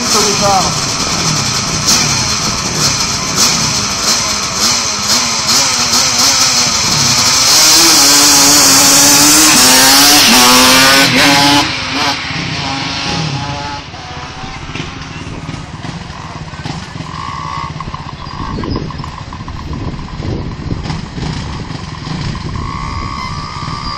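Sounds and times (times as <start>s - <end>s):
quad engine revving: 0.0s - 23.9s.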